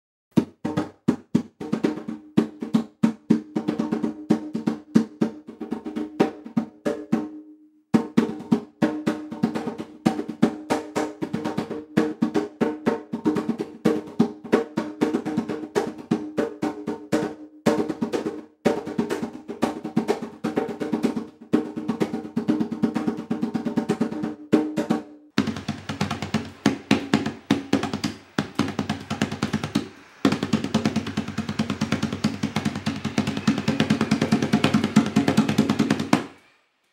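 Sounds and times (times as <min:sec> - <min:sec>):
djembe played by hand: 0:00.4 - 0:36.3.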